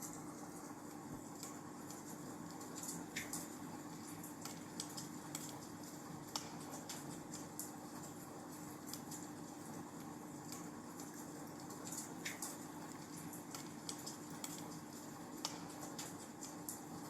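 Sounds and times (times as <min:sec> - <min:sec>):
faint steady hum: 0:00.0 - 0:17.0
wood fire crackling: 0:00.1 - 0:17.0.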